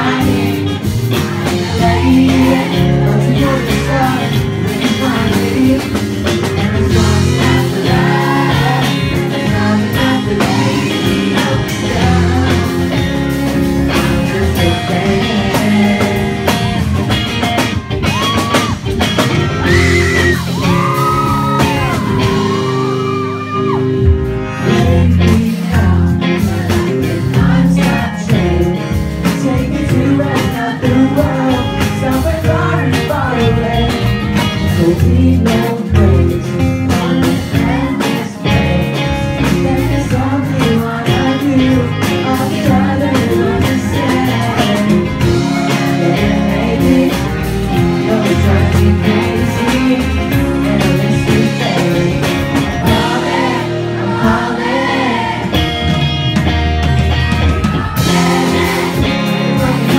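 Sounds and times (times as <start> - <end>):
man singing into microphone: 0.0 - 13.1, 13.9 - 16.9, 24.5 - 55.4, 57.9 - 59.9
electric guitar: 0.0 - 59.9
live rock band playing: 0.0 - 59.9.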